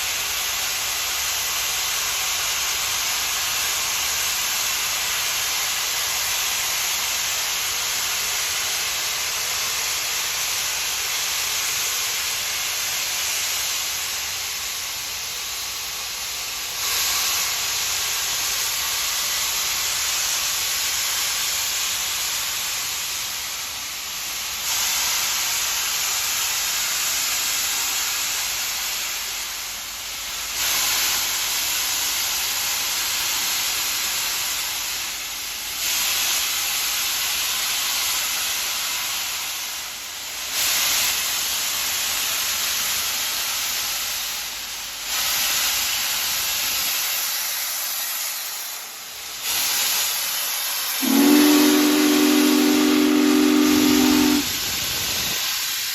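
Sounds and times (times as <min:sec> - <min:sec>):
steam locomotive hissing: 0:00.0 - 0:55.9.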